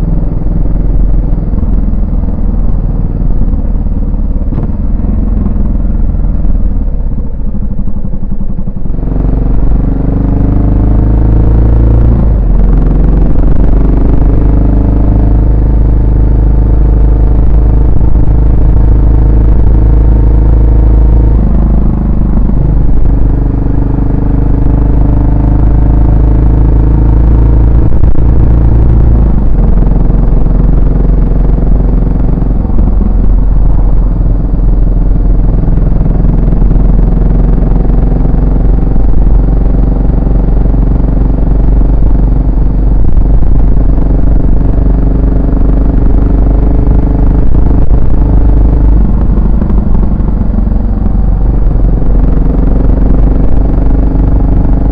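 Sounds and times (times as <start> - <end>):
motorcycle engine while riding: 0.0 - 54.9.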